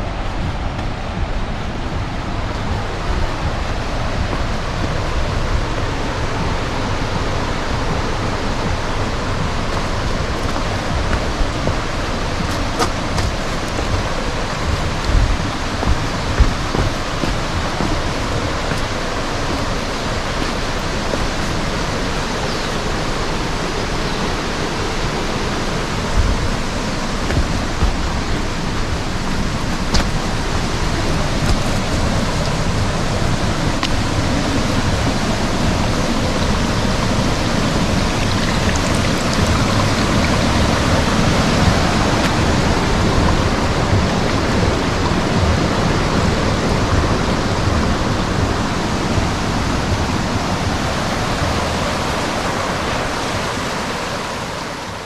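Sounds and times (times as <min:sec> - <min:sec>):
low thumps: 0:00.0 - 0:44.4
waterfall rushing: 0:00.0 - 0:55.0.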